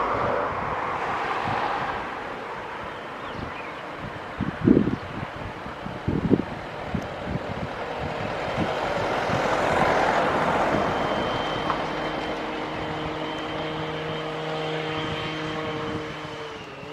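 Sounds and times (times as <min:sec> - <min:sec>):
jet engines roaring: 0:00.0 - 0:16.9
wind buffeting microphone: 0:00.0 - 0:16.9.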